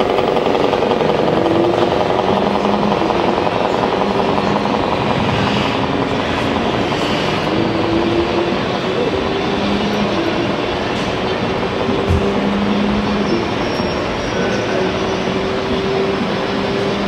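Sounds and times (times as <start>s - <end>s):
hall background noise: 0.0s - 17.0s.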